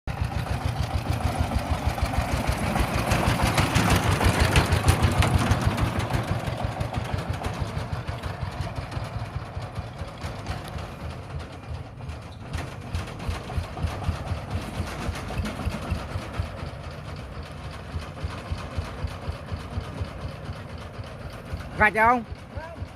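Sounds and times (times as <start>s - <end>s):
tractor engine chugging: 0.1s - 22.9s.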